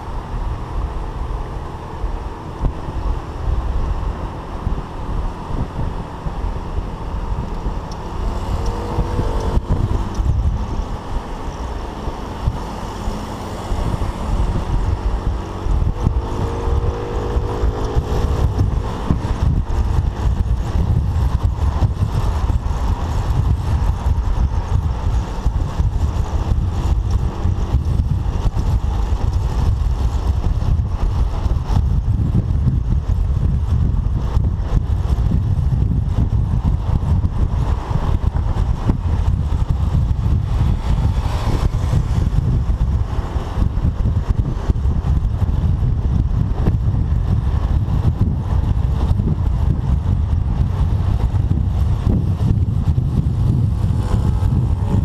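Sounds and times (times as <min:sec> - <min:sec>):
road and traffic noise: 0:00.0 - 0:55.0
scooter engine: 0:00.0 - 0:55.0
wind buffeting microphone: 0:00.0 - 0:55.0.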